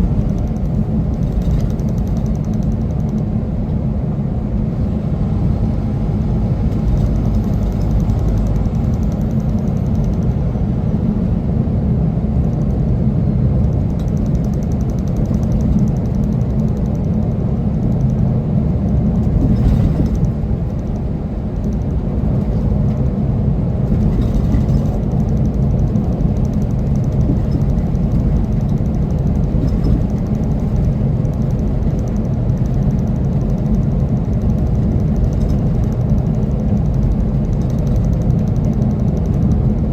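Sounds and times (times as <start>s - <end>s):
road noise: 0.0s - 39.9s
truck engine rumble: 0.0s - 39.9s.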